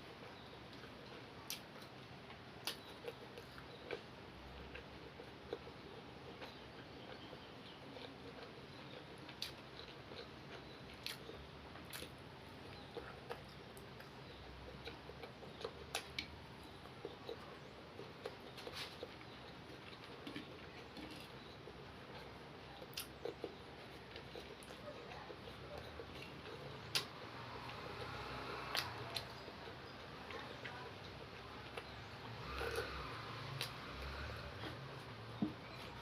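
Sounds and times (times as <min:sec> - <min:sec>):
person chewing: 0:00.2 - 0:30.1, 0:31.7 - 0:36.0.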